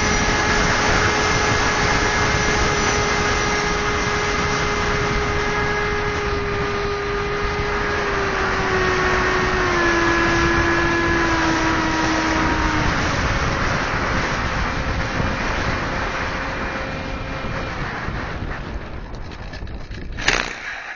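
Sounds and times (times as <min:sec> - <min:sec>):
model plane motor whining: 0:00.0 - 0:20.9
wind noise: 0:00.0 - 0:20.9.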